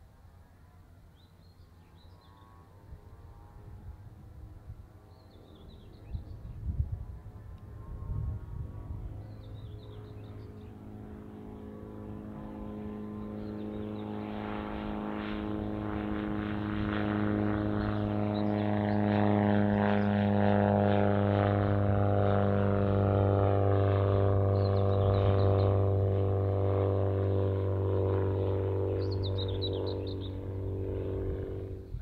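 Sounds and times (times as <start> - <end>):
light aircraft engine drone: 0.0 - 32.0.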